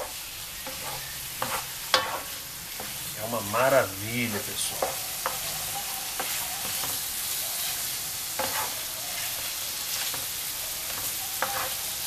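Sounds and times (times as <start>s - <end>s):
wooden spoon scraping pan: 0.0s - 3.1s, 4.5s - 5.6s, 6.2s - 11.9s
liver sizzling in frying pan: 0.0s - 12.0s.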